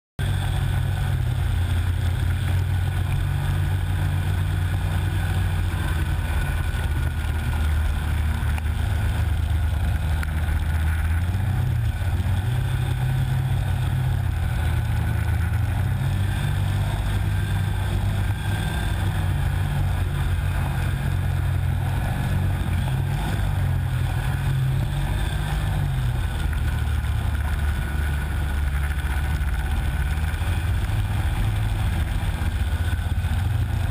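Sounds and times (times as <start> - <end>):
snowmobile engine running: 0.2 - 33.9.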